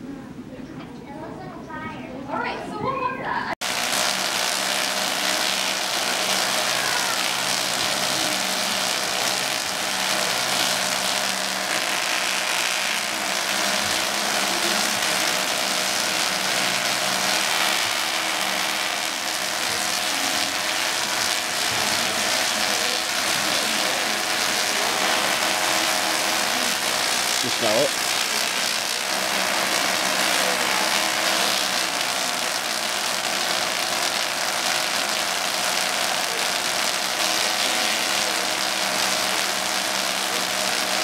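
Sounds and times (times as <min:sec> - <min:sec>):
continuous hiss: 0:03.6 - 0:41.0.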